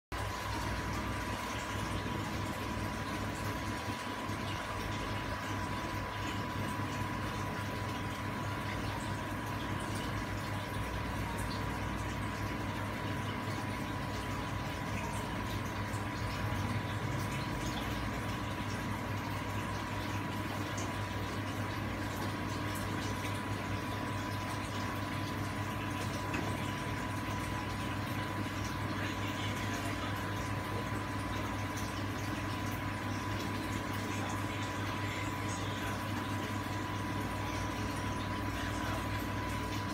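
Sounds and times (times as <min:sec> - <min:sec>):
aquarium air stone bubbling: 0:00.2 - 0:39.9.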